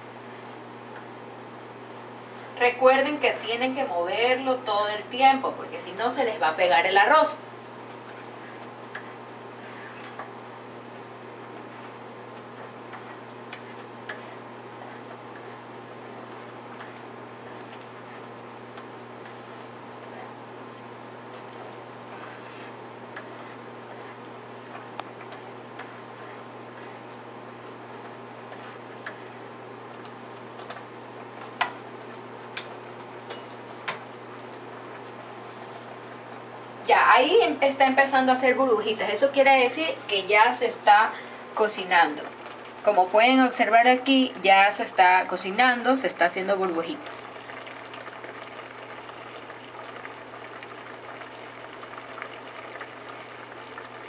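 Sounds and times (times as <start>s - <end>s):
faint low hum: 0.0s - 54.0s
pot of rice bubbling: 4.3s - 54.0s.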